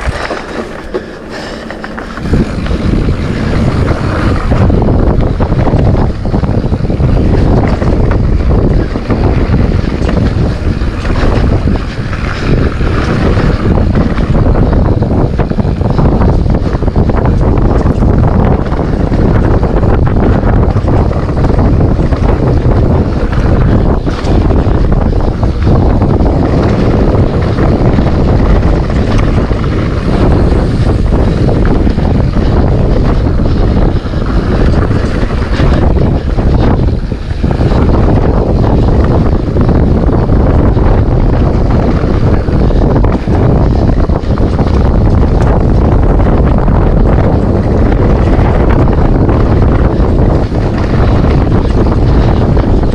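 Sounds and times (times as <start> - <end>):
bike rattling and knocking: 0.0 - 52.9
tyres rumbling over trail: 0.0 - 52.9
wind buffeting microphone: 0.0 - 52.9.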